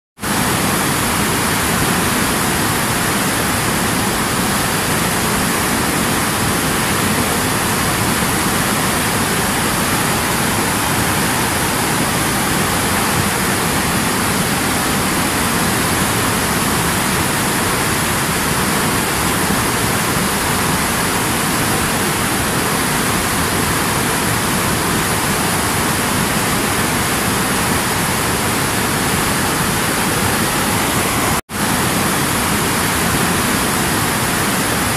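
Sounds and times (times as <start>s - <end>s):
river rushing over rocks: 0.2s - 34.9s.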